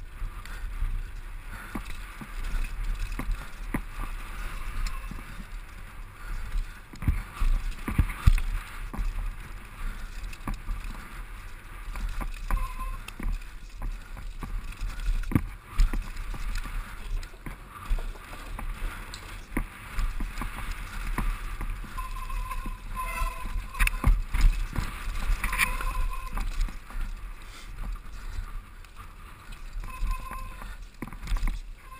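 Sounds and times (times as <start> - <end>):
bike knocking and rattling: 0.0 - 31.9
tyres and wind rushing: 0.0 - 31.9.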